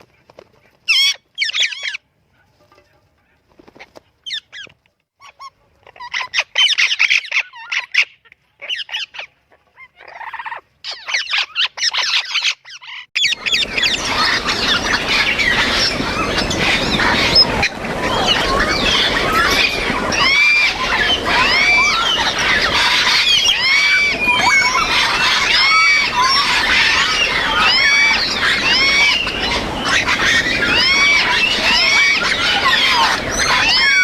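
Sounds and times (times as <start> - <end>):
many parrots chattering: 0.9 - 2.0, 3.7 - 34.0
parrots whistling and squawking: 0.9 - 2.0, 4.3 - 34.0.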